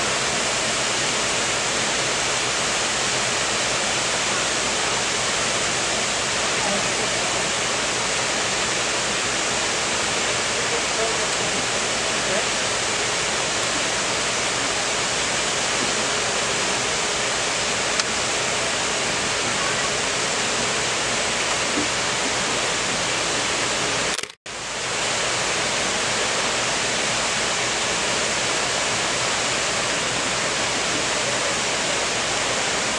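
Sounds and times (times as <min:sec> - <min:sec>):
waterfall pouring over rocks: 0:00.0 - 0:32.9.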